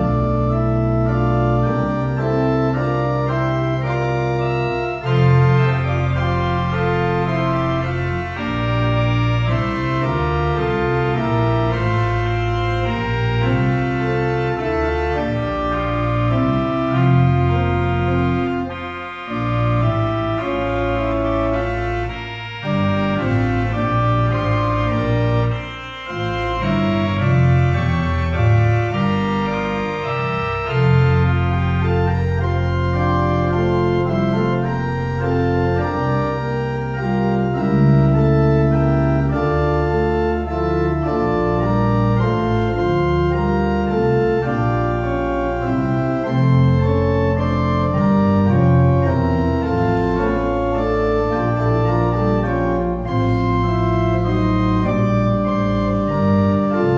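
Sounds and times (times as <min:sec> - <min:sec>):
church organ playing chords: 0:00.0 - 0:56.9.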